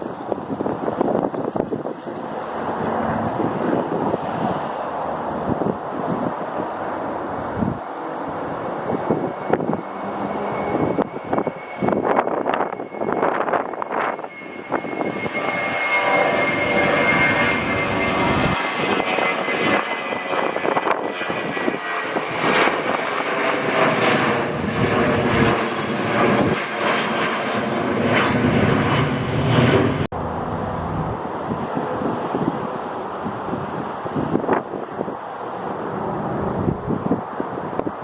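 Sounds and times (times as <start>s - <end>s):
airliner engines passing: 0.0s - 38.0s.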